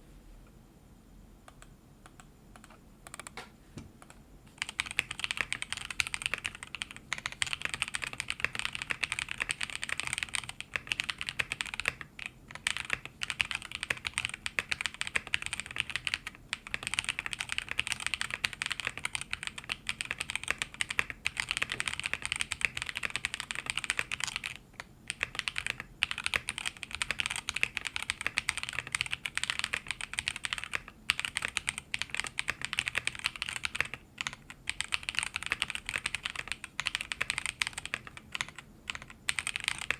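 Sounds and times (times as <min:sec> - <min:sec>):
fast typing on mechanical keyboard: 0:04.6 - 0:39.9.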